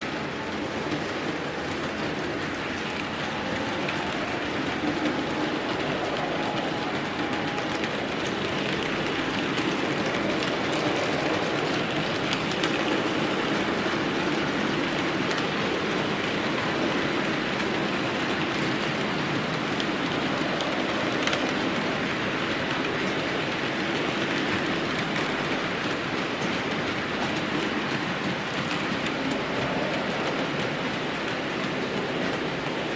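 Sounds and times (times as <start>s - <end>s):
model train wheels rumbling on rail: 0.0s - 32.9s.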